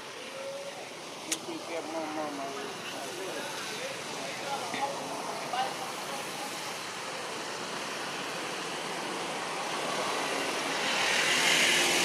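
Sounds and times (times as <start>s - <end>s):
passing vehicle: 0.0s - 12.0s.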